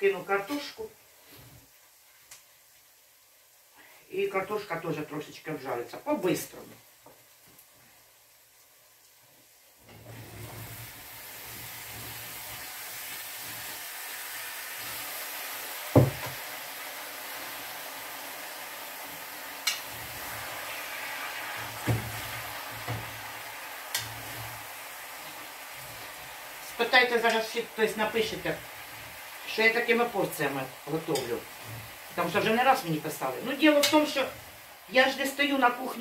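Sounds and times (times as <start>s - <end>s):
potatoes sizzling in hot oil: 0.0s - 36.0s.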